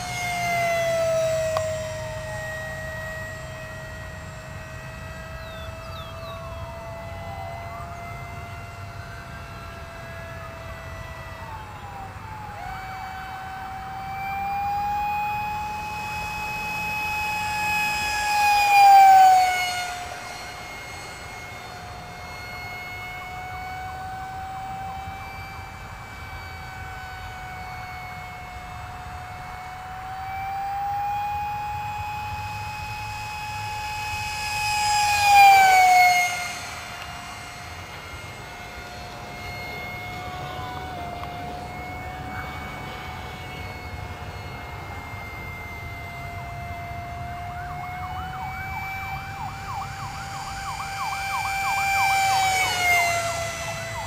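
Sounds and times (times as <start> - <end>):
model jet whine flying past: 0.0 - 54.0.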